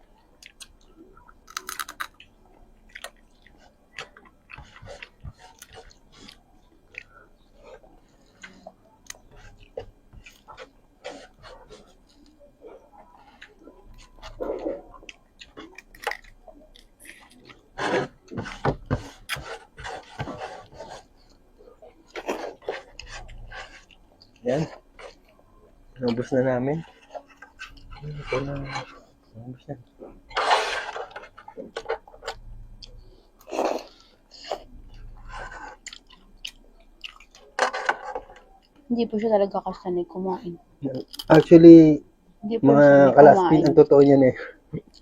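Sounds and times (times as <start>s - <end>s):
wet chewing: 0.4s - 29.3s, 31.0s - 38.8s, 44.8s - 45.0s.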